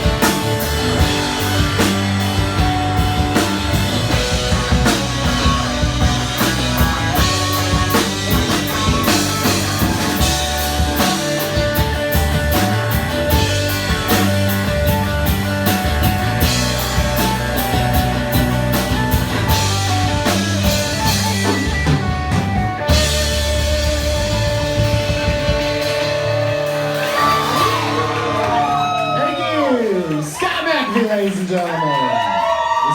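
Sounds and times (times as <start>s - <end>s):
drum kit steady beat: 0.0s - 28.9s
electric guitars and bass: 0.0s - 30.4s.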